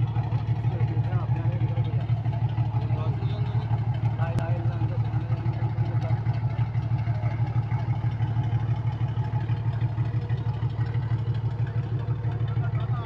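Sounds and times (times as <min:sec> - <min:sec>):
diesel engine throbbing: 0:00.0 - 0:13.0.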